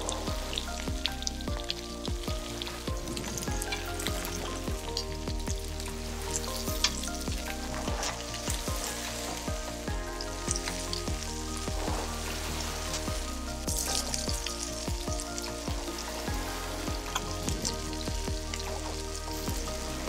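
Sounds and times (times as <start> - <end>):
background music with a beat: 0.0 - 20.0.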